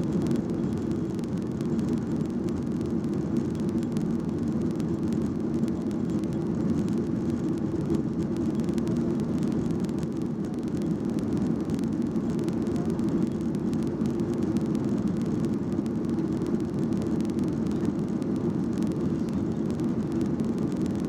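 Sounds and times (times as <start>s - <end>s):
airliner cabin drone: 0.0s - 21.0s.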